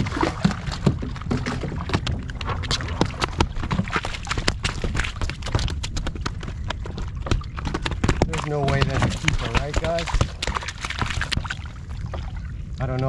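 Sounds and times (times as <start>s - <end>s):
fish slapping on plastic deck: 0.0s - 11.6s
low wind rumble: 0.0s - 13.0s.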